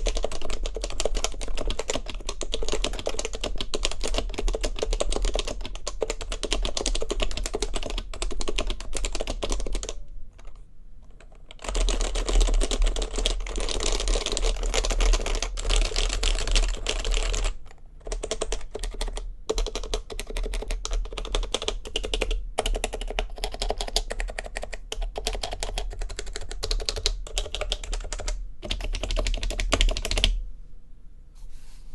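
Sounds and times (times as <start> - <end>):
fast keyboard typing: 0.0 - 30.4.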